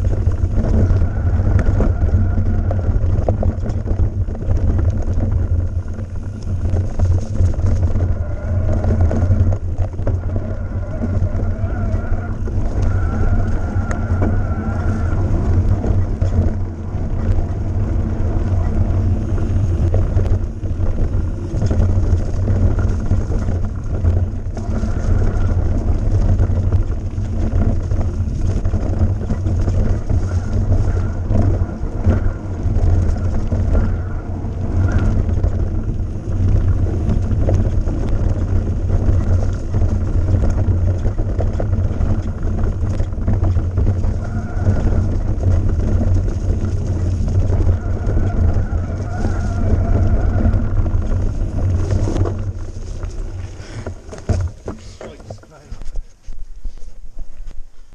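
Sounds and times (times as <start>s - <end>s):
bike knocks and rattles: 0.0s - 56.1s
bike low rumble: 0.0s - 57.9s.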